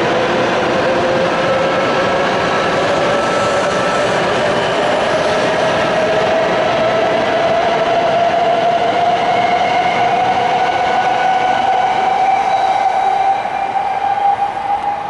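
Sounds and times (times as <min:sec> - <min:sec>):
train rolling noise: 0:00.0 - 0:15.0.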